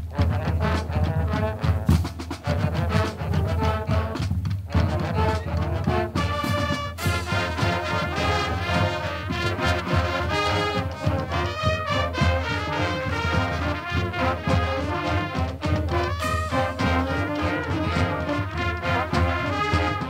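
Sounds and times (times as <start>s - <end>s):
marching band brass: 0.0s - 20.0s
snare and bass drums: 0.0s - 20.0s.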